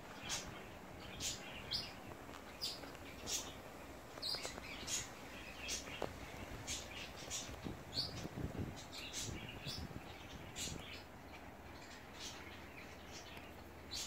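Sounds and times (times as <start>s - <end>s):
faint outdoor background noise: 0.0s - 14.0s
small birds chirping: 0.0s - 14.0s.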